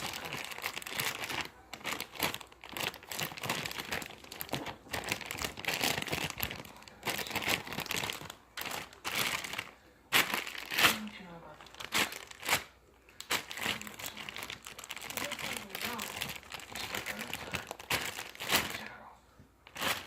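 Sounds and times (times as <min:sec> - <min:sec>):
slime crackling and crinkling: 0:00.0 - 0:20.0.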